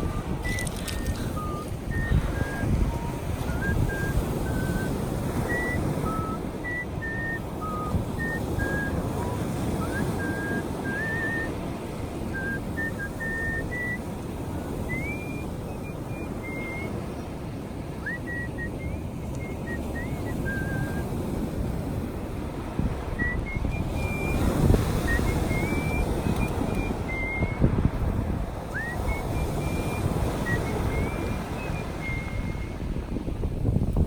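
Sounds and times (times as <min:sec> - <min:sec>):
person whistling a melody: 0:00.0 - 0:11.6, 0:12.3 - 0:17.0, 0:18.0 - 0:21.2, 0:23.2 - 0:27.8, 0:28.7 - 0:32.8.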